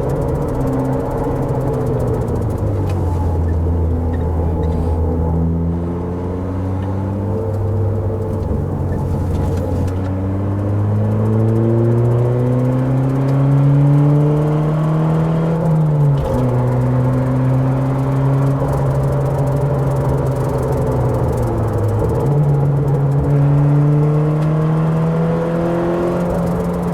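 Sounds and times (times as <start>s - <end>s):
car engine accelerating: 0.0s - 26.9s
gear change: 0.0s - 26.9s.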